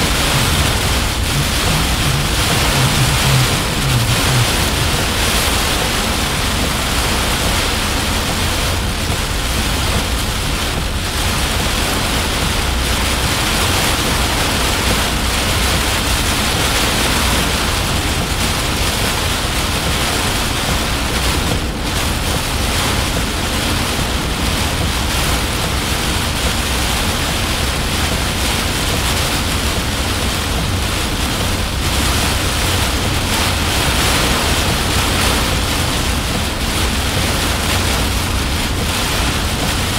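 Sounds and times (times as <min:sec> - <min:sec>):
heavy rain drumming on car roof: 0:00.0 - 0:39.9.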